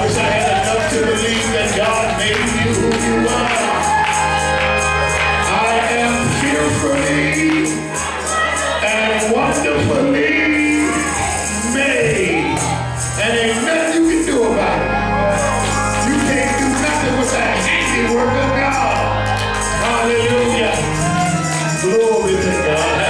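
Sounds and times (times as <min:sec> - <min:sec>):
man singing into microphone: 0:00.0 - 0:04.2, 0:04.8 - 0:15.2, 0:16.0 - 0:23.0
low bass notes: 0:00.0 - 0:07.9, 0:08.9 - 0:23.0
tambourine: 0:00.0 - 0:23.0.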